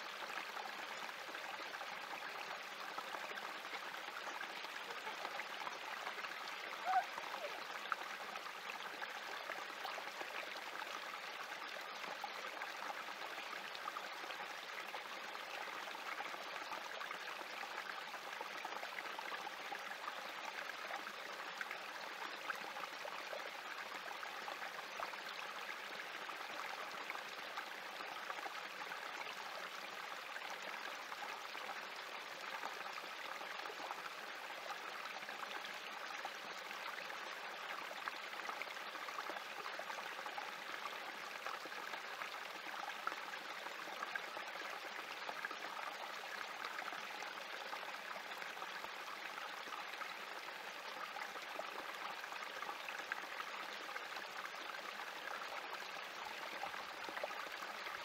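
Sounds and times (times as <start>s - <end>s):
creek trickling over rocks: 0.0s - 58.0s.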